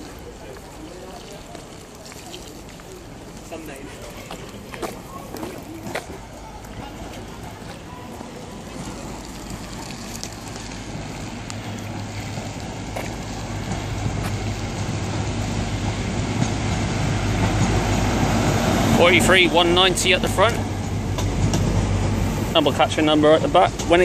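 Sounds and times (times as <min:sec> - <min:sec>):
diesel train approaching: 0:00.0 - 0:24.0.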